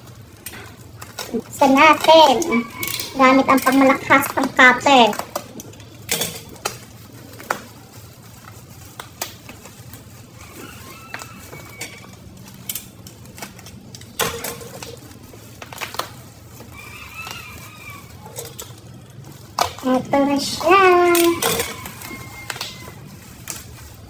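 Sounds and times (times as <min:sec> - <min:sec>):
bubble wrap crackling: 0:00.0 - 0:24.0
knife slitting bubble wrap: 0:00.0 - 0:24.0.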